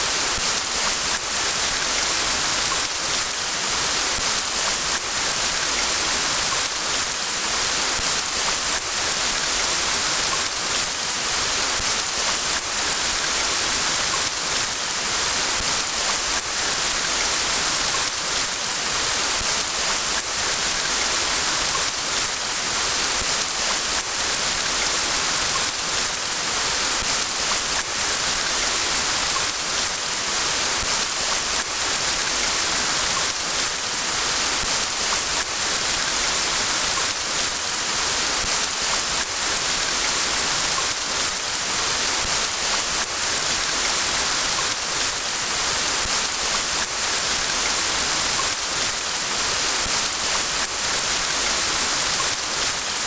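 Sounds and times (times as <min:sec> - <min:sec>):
rain falling in a forest: 0:00.0 - 0:53.0.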